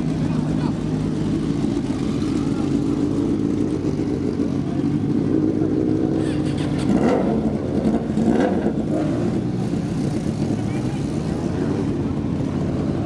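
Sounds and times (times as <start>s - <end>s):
motorcycle engine running and revving: 0.0s - 13.0s.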